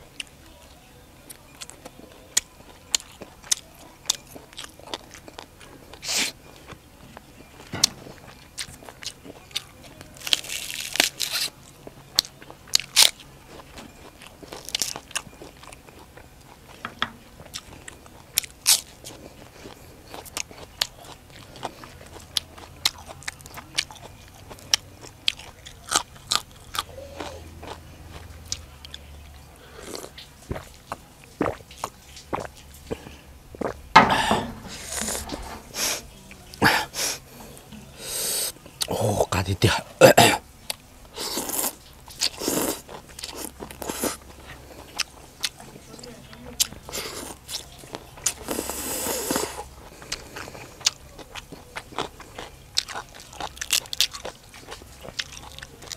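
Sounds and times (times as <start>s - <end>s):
person chewing crunchy vegetables: 1.3s - 55.9s.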